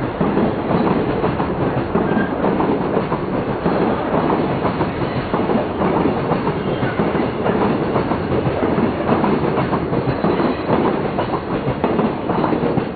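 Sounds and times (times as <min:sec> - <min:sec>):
clickety-clack over rail joints: 0:00.0 - 0:12.9
train wheels rumbling on rail: 0:00.0 - 0:12.9.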